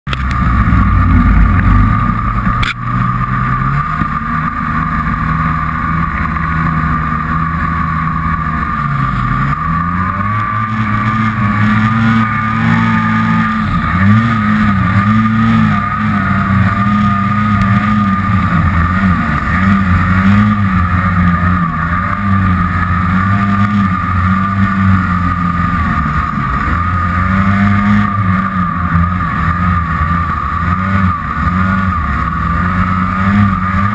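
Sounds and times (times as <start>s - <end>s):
snowmobile two-stroke engine running: 0.0s - 33.9s.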